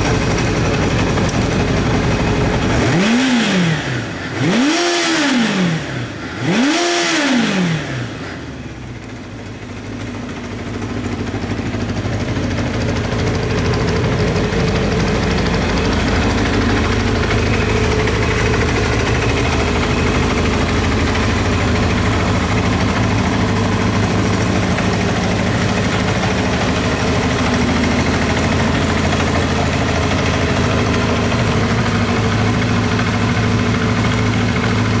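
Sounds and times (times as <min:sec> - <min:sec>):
motorcycle engine revving and idling: 0:00.0 - 0:35.0.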